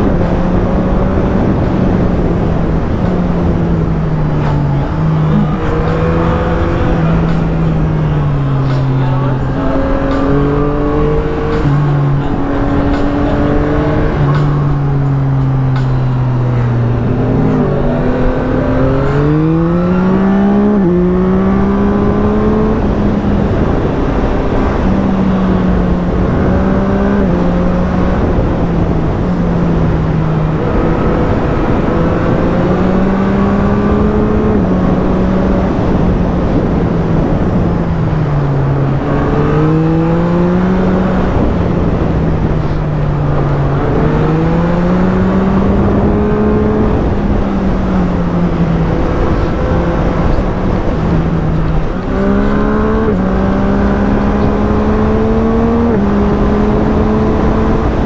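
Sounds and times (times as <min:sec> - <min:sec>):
constant rushing noise: 0:00.0 - 0:58.0
motorcycle engine accelerating: 0:00.0 - 0:58.0.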